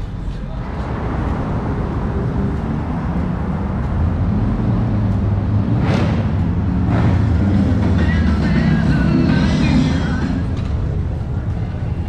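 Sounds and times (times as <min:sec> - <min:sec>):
cars driving past: 0:00.0 - 0:12.0
vehicle engine rumble: 0:00.0 - 0:12.0.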